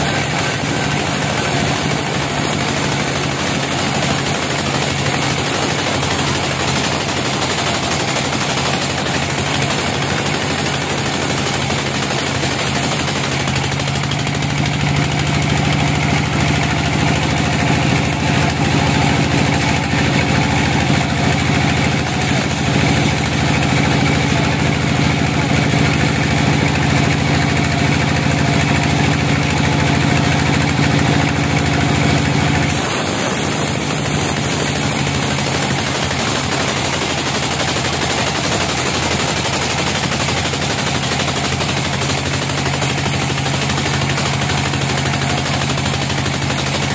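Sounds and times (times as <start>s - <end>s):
band saw cutting log: 0.0s - 46.9s.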